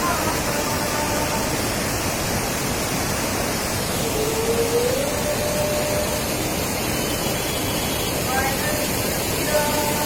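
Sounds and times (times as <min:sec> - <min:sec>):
rushing flood water: 0:00.0 - 0:10.0.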